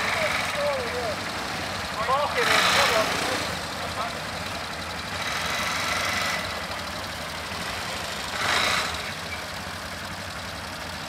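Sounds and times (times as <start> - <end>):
quad bike engines idling: 0.0 - 11.0.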